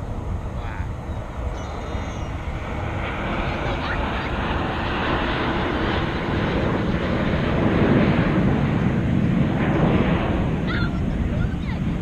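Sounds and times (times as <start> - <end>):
jet aircraft flying overhead: 0.0 - 12.0
wind buffeting microphone: 0.0 - 12.0.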